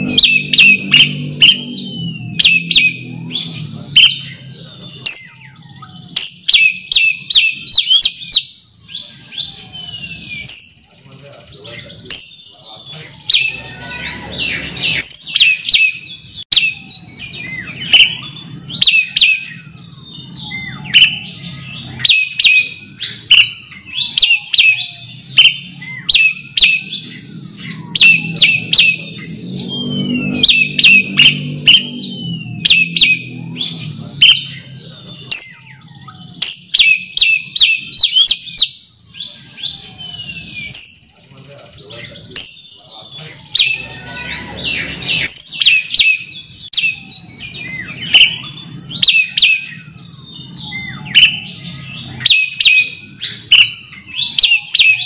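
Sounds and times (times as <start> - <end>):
songbird whistles and chirps: 0.0 - 55.0.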